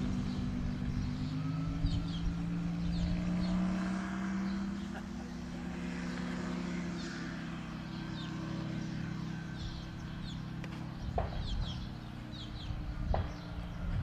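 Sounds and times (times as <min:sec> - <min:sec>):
birds chirping: 0:00.0 - 0:14.0
light aircraft engine drone: 0:00.0 - 0:14.0.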